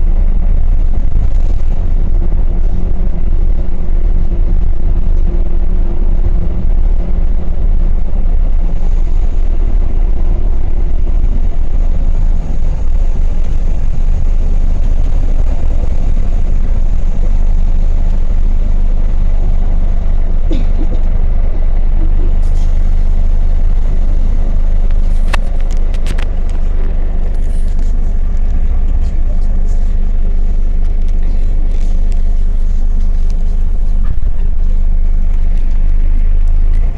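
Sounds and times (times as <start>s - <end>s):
train rumbling along track: 0.0s - 36.9s.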